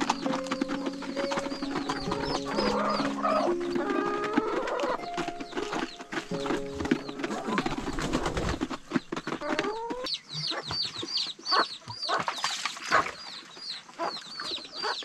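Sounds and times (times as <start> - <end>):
hen clucking: 0.0 - 12.3
chicks peeping: 0.0 - 15.0.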